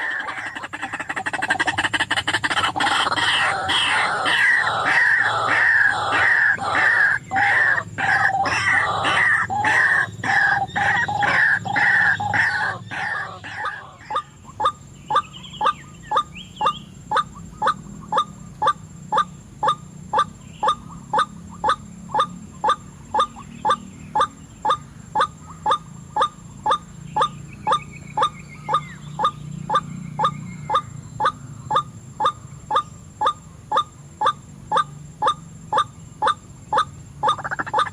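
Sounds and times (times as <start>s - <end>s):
waterhen calling: 0.0s - 37.9s.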